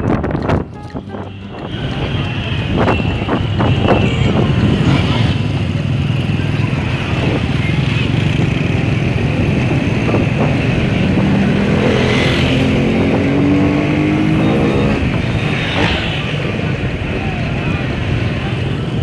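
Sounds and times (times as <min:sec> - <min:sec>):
road noise: 0:00.0 - 0:19.0
vehicle engine accelerating: 0:00.0 - 0:19.0.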